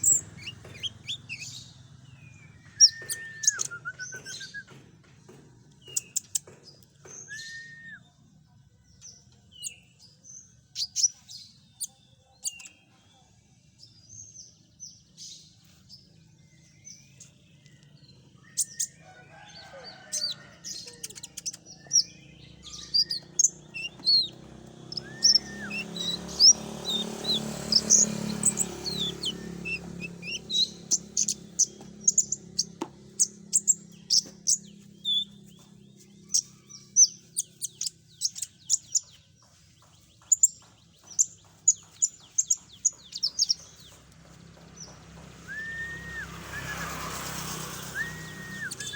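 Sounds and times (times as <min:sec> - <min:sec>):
songbird chirps and trills: 0:00.0 - 0:48.9.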